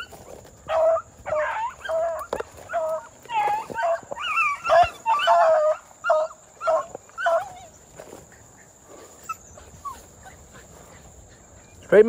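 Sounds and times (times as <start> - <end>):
dogs yelping barks: 0.0 - 12.0
faint distant dog calls: 0.0 - 12.0.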